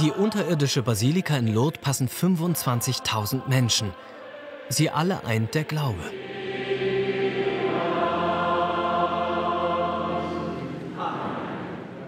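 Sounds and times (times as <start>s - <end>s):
congregation singing: 0.0s - 12.0s.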